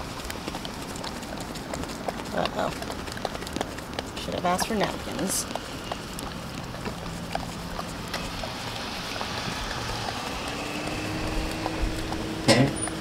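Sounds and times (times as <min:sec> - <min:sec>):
faint wet clicks: 0:00.0 - 0:10.6
dog licking: 0:00.0 - 0:13.0
low vehicle hum: 0:00.0 - 0:13.0.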